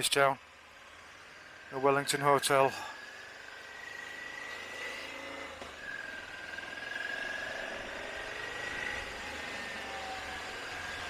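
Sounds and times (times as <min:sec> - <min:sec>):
faint steady whine: 0:00.0 - 0:11.0
motorcycle engine running: 0:00.7 - 0:11.0.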